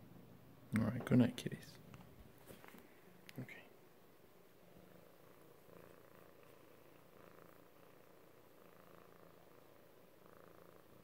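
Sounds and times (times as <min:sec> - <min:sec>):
cat purring: 0:01.0 - 0:11.0.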